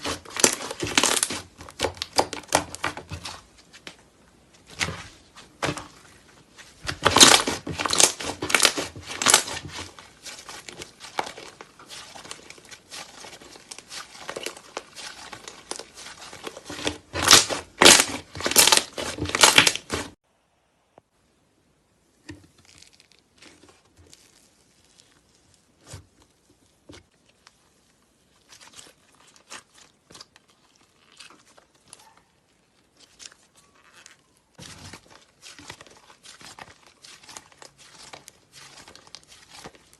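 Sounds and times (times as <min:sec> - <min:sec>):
slime crackling and popping: 0:00.0 - 0:04.0, 0:06.6 - 0:20.2, 0:22.2 - 0:27.6, 0:28.2 - 0:39.9.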